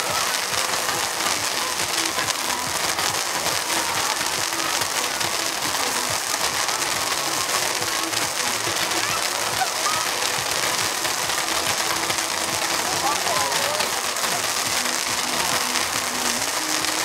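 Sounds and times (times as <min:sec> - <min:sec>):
fireworks hissing and crackling: 0:00.0 - 0:17.0.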